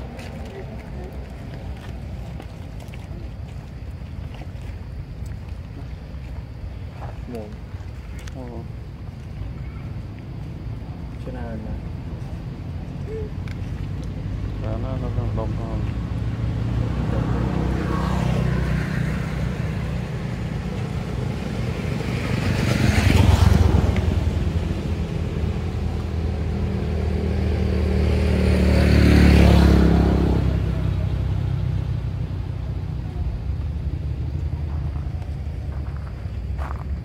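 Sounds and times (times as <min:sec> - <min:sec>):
low engine hum: 0:00.0 - 0:37.0
vehicles passing by: 0:00.0 - 0:37.0.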